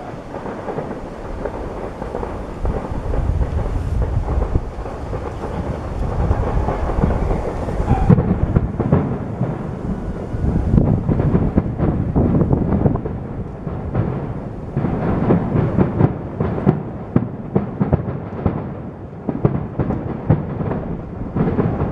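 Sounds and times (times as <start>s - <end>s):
fireworks booming: 0.0s - 21.9s.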